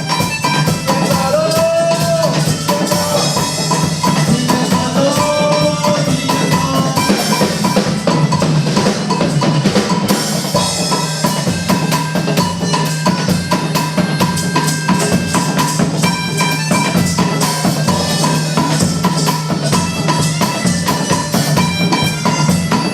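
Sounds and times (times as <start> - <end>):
fast drum and percussion music: 0.0 - 22.9.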